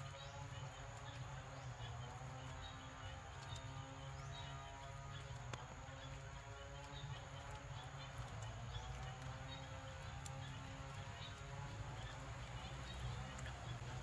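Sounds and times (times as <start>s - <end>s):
birds chirping: 0.0s - 14.0s
low steady hum: 0.0s - 14.0s.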